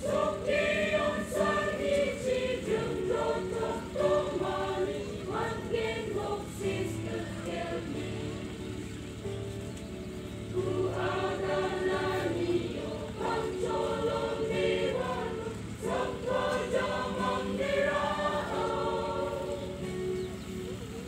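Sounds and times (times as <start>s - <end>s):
mixed choir singing in parts: 0.0s - 9.5s, 10.1s - 21.0s.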